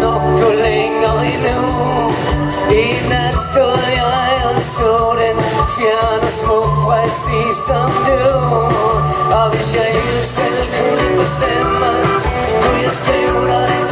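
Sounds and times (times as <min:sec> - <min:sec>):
bass guitar: 0:00.0 - 0:13.9
drums: 0:00.0 - 0:13.9
electric guitar: 0:00.0 - 0:13.9
person singing: 0:00.0 - 0:13.9.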